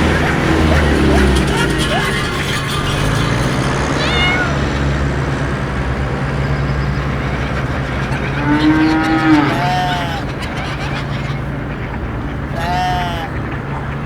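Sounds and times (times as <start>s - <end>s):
animal cries: 0.0s - 4.9s, 7.0s - 13.9s
low hum: 0.0s - 14.0s.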